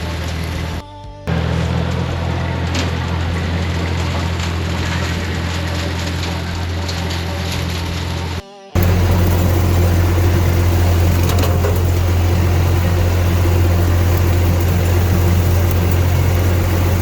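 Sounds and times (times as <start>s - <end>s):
tractor engine running: 0.0s - 17.0s
cracks and clatter: 1.8s - 17.0s.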